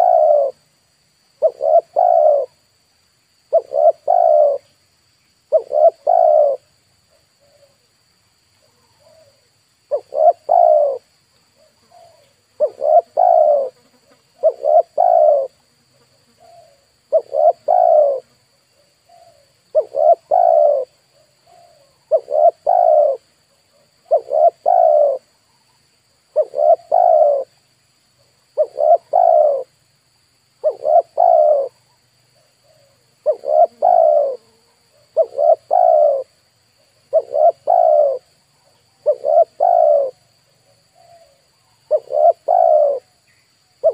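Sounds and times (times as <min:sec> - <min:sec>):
dove cooing: 0:00.0 - 0:00.6, 0:01.4 - 0:02.6, 0:03.5 - 0:04.7, 0:05.5 - 0:07.8, 0:08.6 - 0:13.8, 0:14.4 - 0:15.6, 0:16.4 - 0:25.3, 0:26.3 - 0:27.6, 0:28.6 - 0:29.7, 0:30.6 - 0:43.2.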